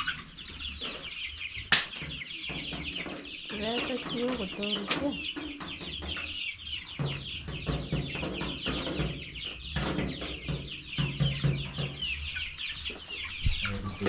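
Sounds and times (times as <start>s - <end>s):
chickens clucking: 0.0s - 14.0s
chicks peeping: 0.0s - 14.0s.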